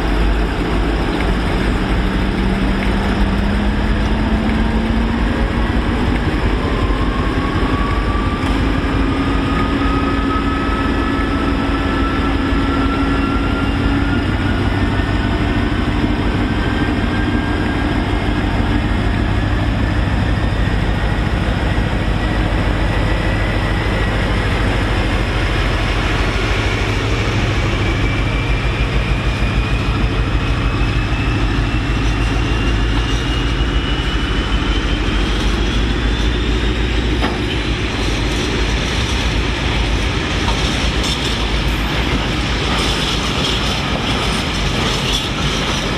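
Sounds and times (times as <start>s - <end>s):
diesel locomotive engine throbbing: 0.0s - 45.9s
rising whine: 0.1s - 40.6s.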